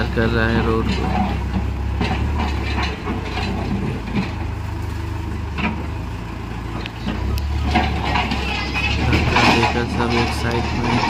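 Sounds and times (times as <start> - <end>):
diesel engine running under load: 0.0 - 11.0
knocks and scrapes: 0.4 - 6.0, 6.8 - 11.0.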